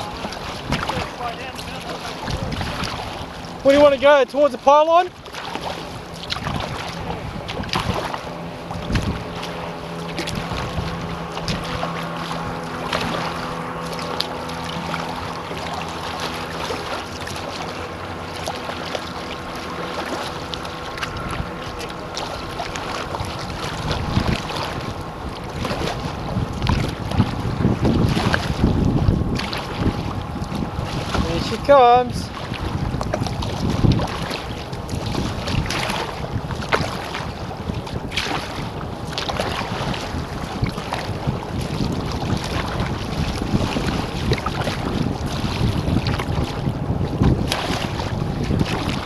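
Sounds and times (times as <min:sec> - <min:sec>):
boat engine humming: 0:00.0 - 0:49.0
water lapping and splashing: 0:00.0 - 0:49.0
wind buffeting microphone: 0:00.0 - 0:49.0.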